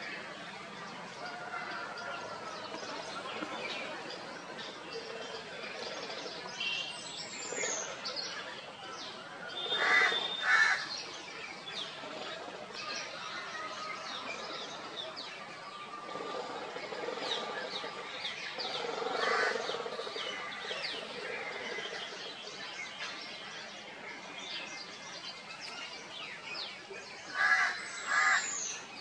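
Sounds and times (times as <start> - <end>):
birds chirping: 0.0 - 29.0
loud bird calls: 1.2 - 23.2, 27.2 - 29.0.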